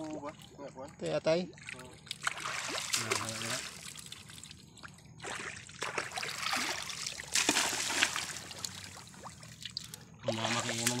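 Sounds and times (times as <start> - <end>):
shallow water splashing: 1.5 - 11.0.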